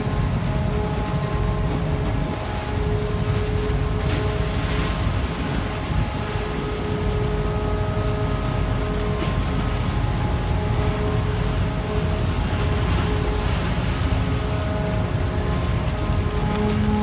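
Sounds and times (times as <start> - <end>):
machinery droning and whining: 0.0 - 17.0.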